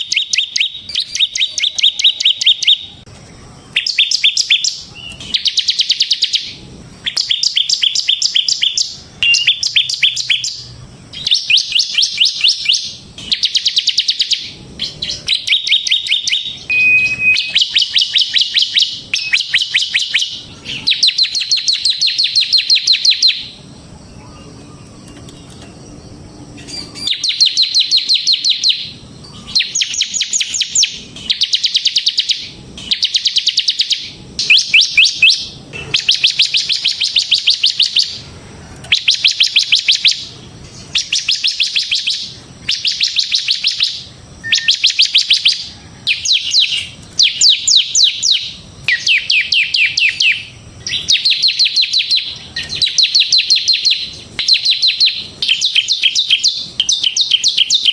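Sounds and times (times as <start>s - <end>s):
bird singing trilled phrases: 0.0s - 57.9s.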